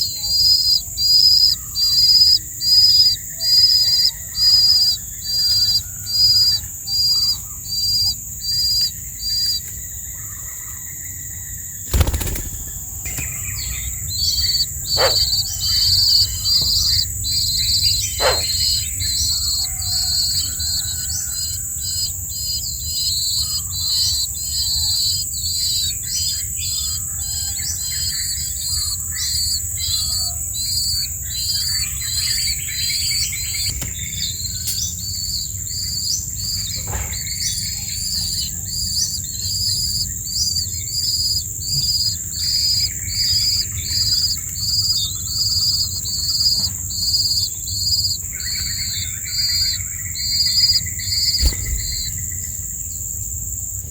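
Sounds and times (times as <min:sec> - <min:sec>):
baby birds chirping: 0:00.0 - 0:52.6
high insect drone: 0:00.0 - 0:53.9.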